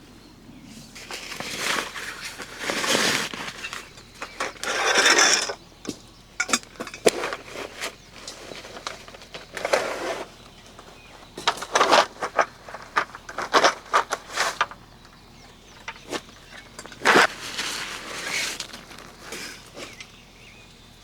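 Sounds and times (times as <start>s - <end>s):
rustling and scraping: 0.6s - 20.2s.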